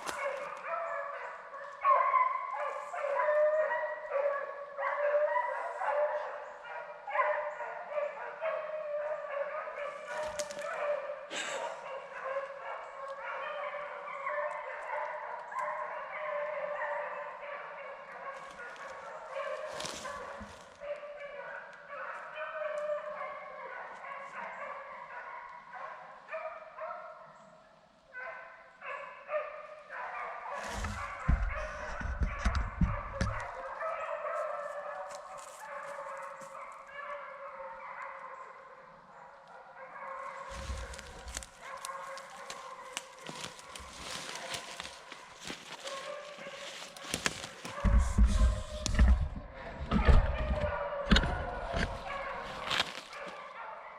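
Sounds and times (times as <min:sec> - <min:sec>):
hounds baying: 0:00.0 - 0:27.5, 0:28.1 - 0:53.9.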